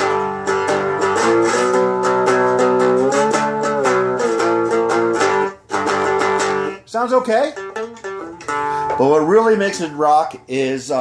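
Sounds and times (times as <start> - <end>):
electric guitar strummed chords: 0.0 - 10.4.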